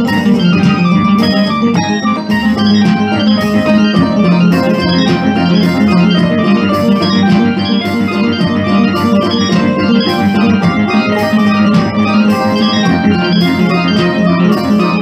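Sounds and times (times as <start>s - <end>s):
electronic keyboard organ voice: 0.0s - 15.0s
regular high beat: 0.0s - 15.0s.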